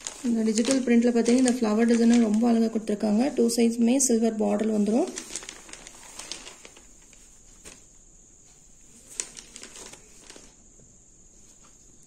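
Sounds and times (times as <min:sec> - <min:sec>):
fabric rustling: 0:00.0 - 0:03.8, 0:04.5 - 0:10.6.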